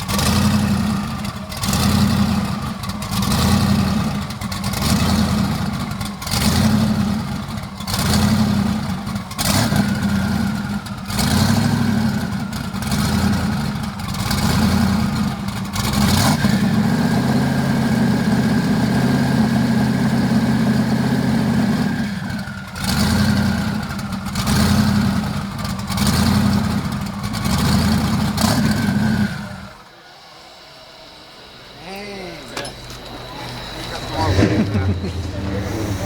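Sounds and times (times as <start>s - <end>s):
car engine idling and revving: 0.0s - 31.8s, 32.5s - 36.0s.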